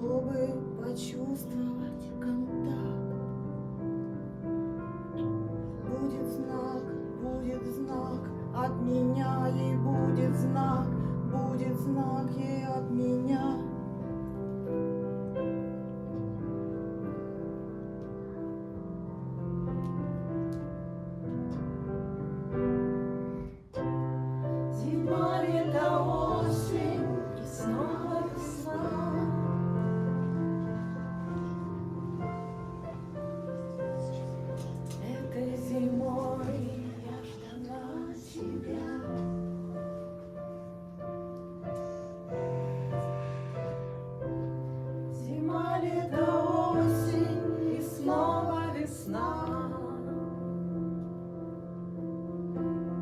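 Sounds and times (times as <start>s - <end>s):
piano playing slow chords: 0.0s - 53.0s.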